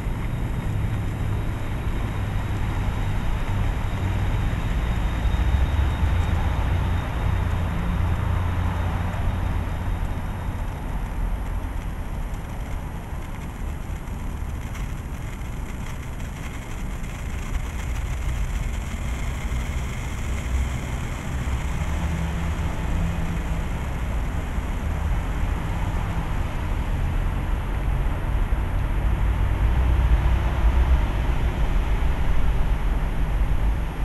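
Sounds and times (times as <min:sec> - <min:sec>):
city road traffic rumble: 0:00.0 - 0:34.0
engine hum: 0:00.0 - 0:34.0.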